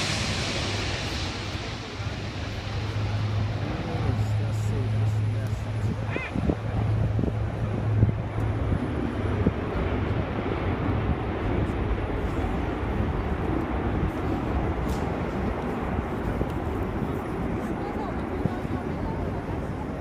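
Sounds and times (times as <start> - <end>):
aircraft engines rumbling: 0.0 - 20.0.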